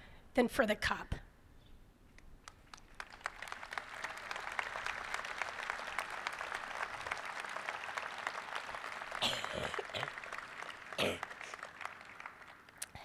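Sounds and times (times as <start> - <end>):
audience applause: 2.5 - 13.0.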